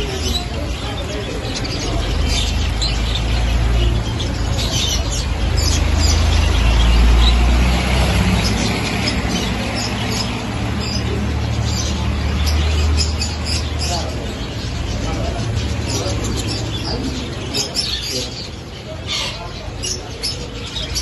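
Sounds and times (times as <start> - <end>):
birds chirping and chattering: 0.0 - 21.0.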